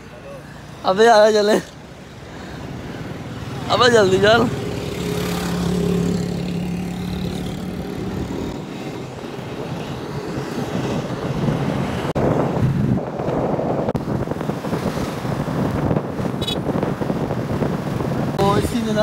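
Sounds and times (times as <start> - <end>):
wind rushing over microphone: 0.7 - 19.0.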